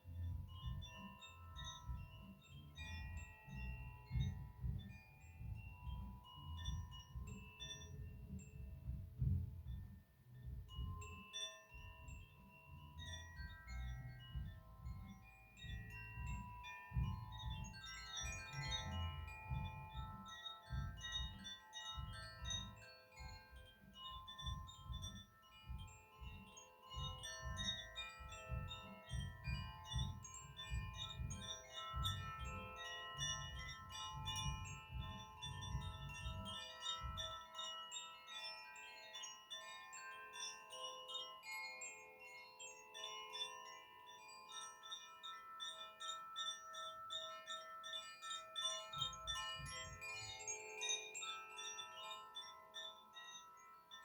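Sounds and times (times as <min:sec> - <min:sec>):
chimes tinkling: 0:00.0 - 0:54.0.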